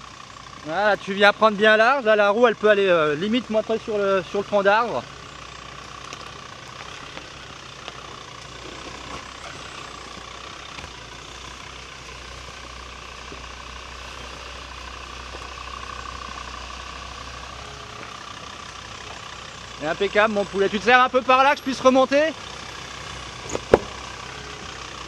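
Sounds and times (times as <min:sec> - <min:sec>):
engine running low: 0:00.0 - 0:25.0.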